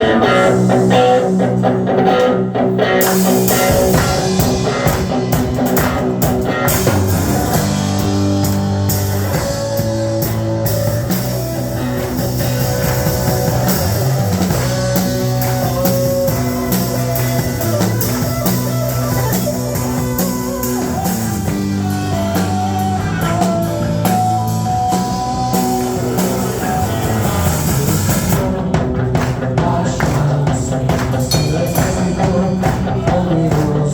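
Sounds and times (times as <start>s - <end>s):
worship band instrumental: 0.0s - 33.9s.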